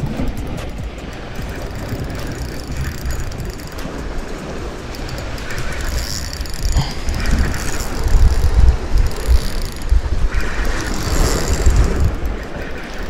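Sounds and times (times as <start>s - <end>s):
fishing reel whirring: 0.0s - 13.0s
wind buffeting microphone: 0.0s - 13.0s.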